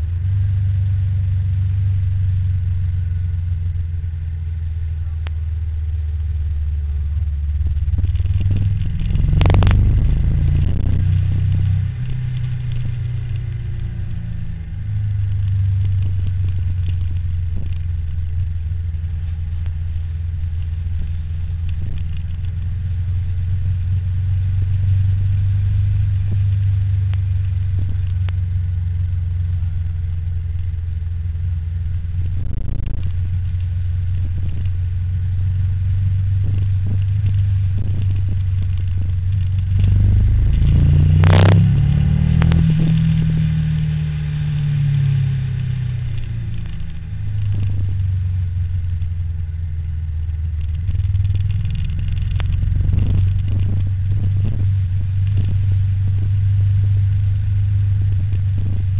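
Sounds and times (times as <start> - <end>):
road riding rumble: 0.0 - 58.9.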